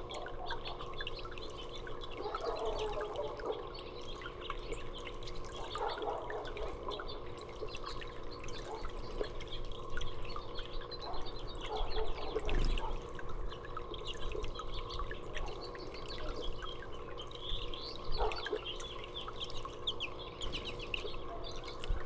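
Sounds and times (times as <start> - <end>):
faint small birds chirping: 0.0 - 22.0
water dripping and trickling: 0.0 - 22.0.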